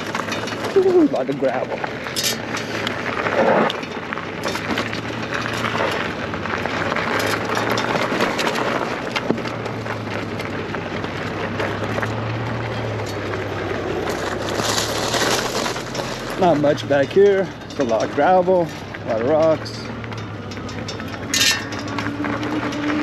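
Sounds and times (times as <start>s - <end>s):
bike tyres crunching on gravel: 0.0s - 23.0s.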